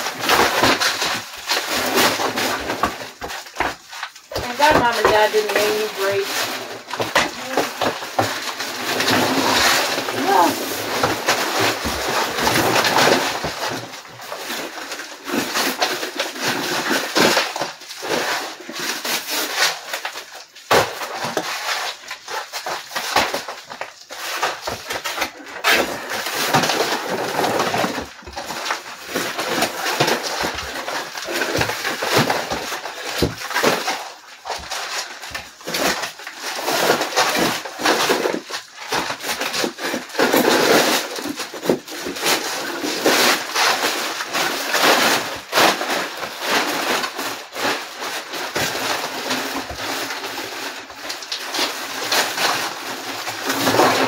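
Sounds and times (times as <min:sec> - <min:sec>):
plaster pieces cracking and falling: 0:00.0 - 0:54.0.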